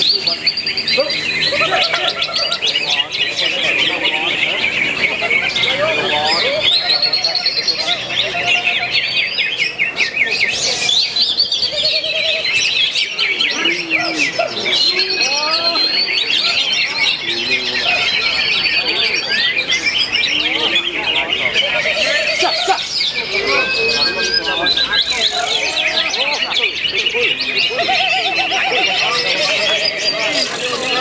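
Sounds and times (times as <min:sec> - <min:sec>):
low whistled bird calls: 0:00.0 - 0:31.0
songbirds chirping and trilling: 0:00.0 - 0:31.0.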